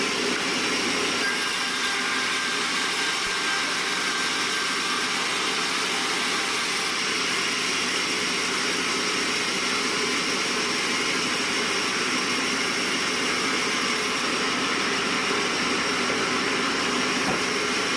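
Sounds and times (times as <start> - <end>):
band saw machinery running: 0.0 - 17.9.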